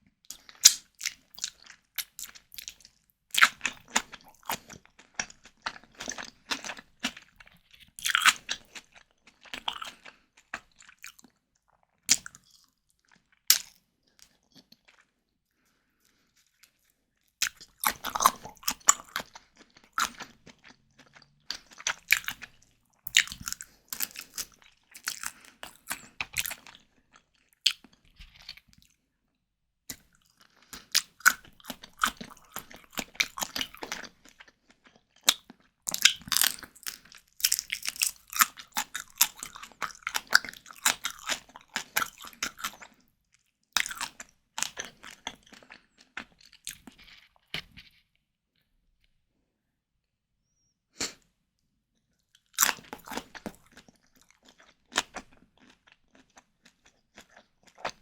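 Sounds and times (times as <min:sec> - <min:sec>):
wet crunchy chewing: 0:00.3 - 0:15.1, 0:16.0 - 0:29.0, 0:29.9 - 0:48.0, 0:52.4 - 0:58.0.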